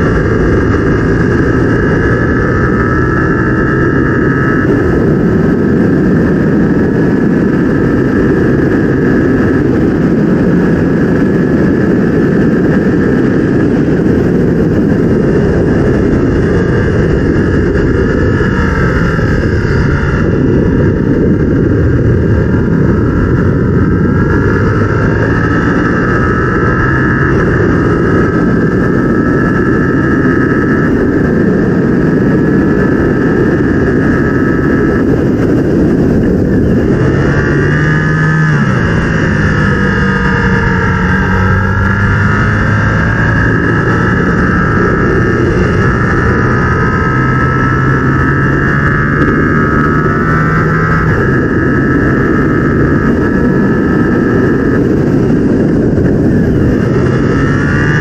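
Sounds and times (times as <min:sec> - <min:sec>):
motorcycle engine revving: 0:00.0 - 0:58.0
wind noise rushing: 0:00.0 - 0:58.0.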